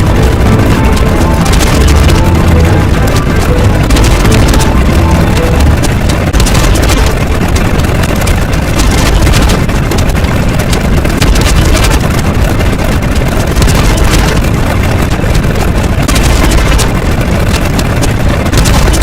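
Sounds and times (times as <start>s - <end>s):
loud continuous rumbling: 0.0s - 19.0s.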